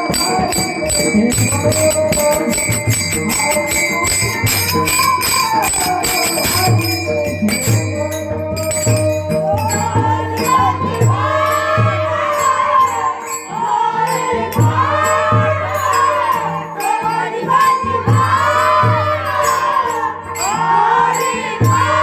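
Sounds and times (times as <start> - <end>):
drum beating: 0.0 - 22.0
jingling metal percussion: 0.0 - 22.0
person singing: 0.0 - 22.0.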